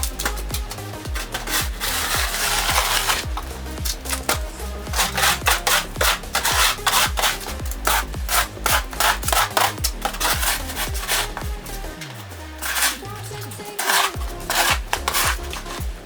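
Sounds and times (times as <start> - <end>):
electronic dance music: 0.0 - 16.0
sustained hissing scrape: 0.2 - 15.9.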